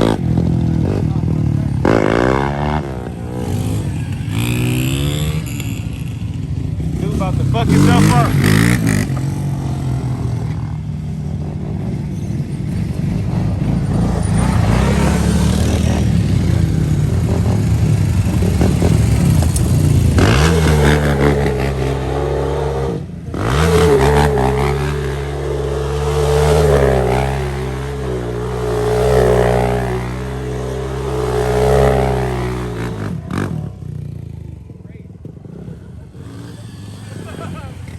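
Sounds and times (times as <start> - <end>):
off-road bike engines revving: 0.0 - 37.9.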